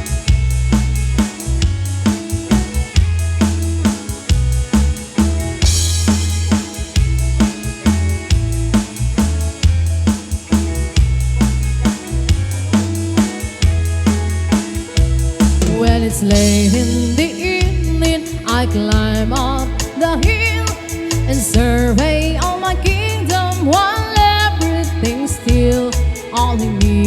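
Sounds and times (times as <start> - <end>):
drum kit beat: 0.0 - 27.0
live band playing a waltz: 0.0 - 27.0
sustained bass notes: 0.0 - 27.0.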